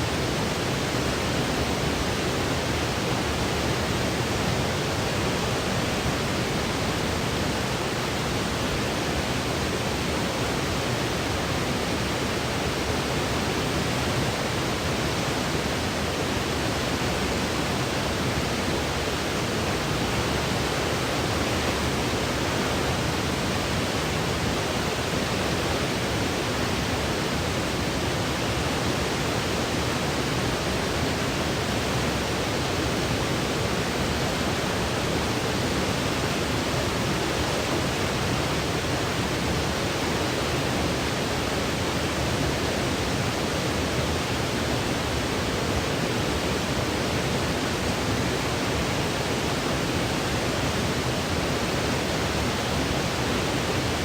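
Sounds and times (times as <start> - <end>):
steady hiss noise: 0.0 - 54.0.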